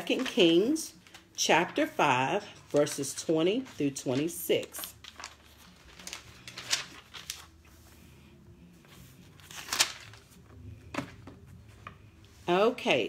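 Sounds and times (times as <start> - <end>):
book pages turning: 0.0 - 12.5.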